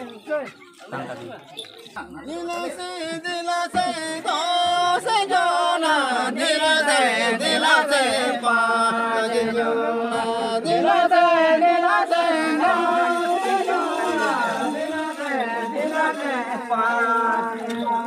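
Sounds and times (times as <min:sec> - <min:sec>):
men singing together: 0:02.3 - 0:18.0.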